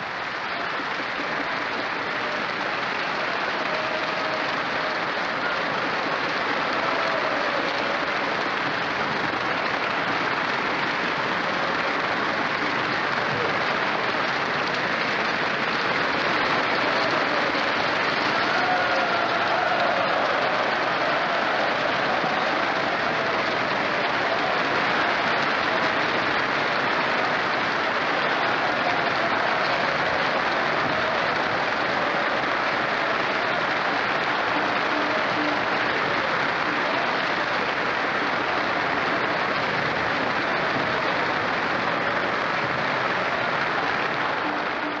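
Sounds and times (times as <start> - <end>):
audience applauding: 0.0 - 45.0.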